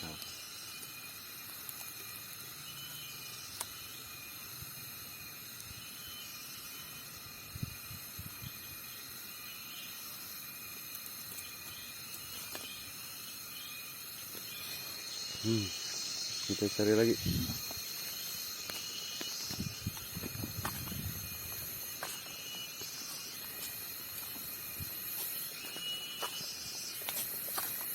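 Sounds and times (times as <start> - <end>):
cicadas chorus: 0.0 - 27.9.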